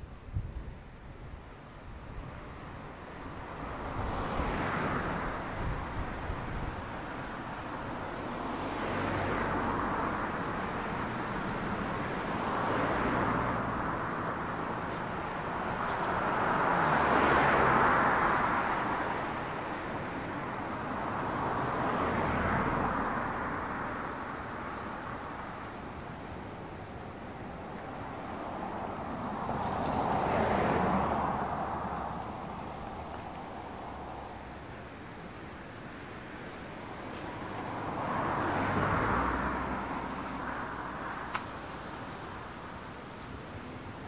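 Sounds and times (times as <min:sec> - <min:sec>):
cars driving past: 0:02.4 - 0:44.0.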